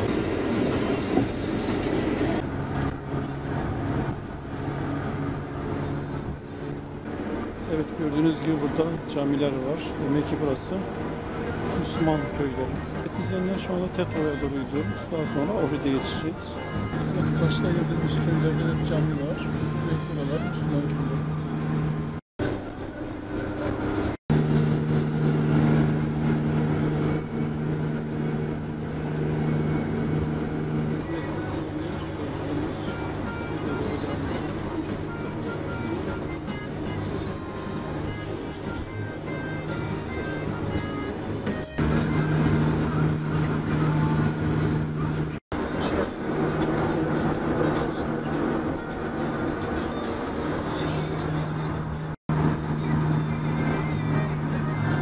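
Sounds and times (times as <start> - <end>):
engine hum: 0.0 - 55.0
road rumble: 0.0 - 55.0.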